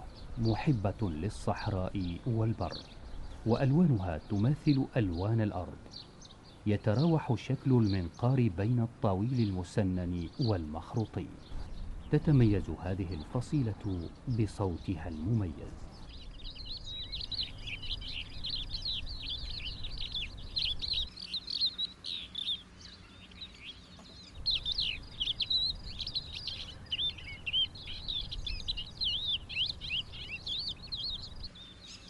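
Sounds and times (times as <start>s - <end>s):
lark warbling song: 0.0s - 32.0s.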